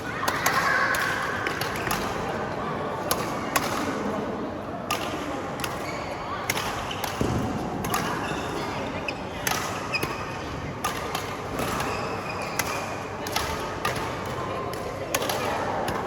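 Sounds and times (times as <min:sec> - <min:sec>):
background chatter: 0:00.0 - 0:16.0.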